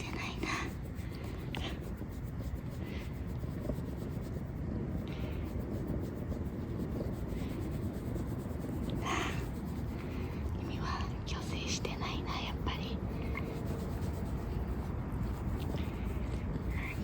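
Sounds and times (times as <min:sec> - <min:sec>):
hand rubbing on fur: 0:00.0 - 0:10.8, 0:12.6 - 0:17.0.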